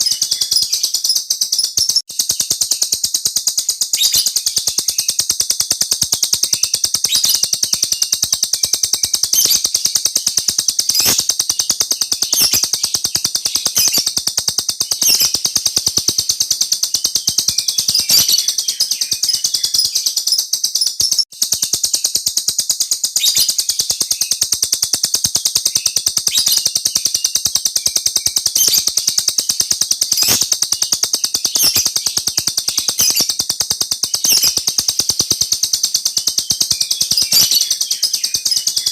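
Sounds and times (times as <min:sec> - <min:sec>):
cage bird rolling trill: 0:00.0 - 0:38.9.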